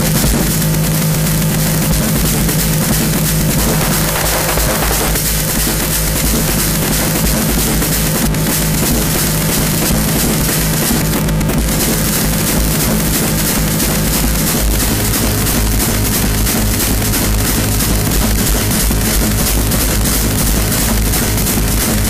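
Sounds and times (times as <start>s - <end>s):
distorted noise music: 0.0s - 22.0s
drum-like hits: 0.0s - 22.0s
low drone: 0.0s - 22.0s.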